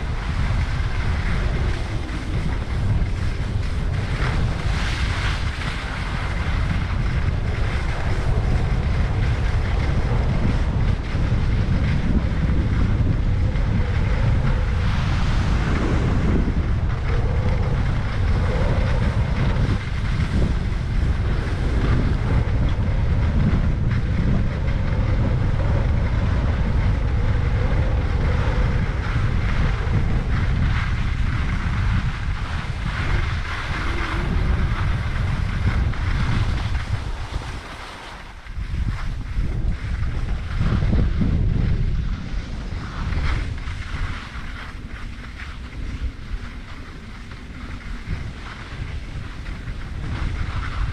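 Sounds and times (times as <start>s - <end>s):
skis sliding over snow: 0.0s - 50.9s
wind buffeting microphone: 0.0s - 50.9s.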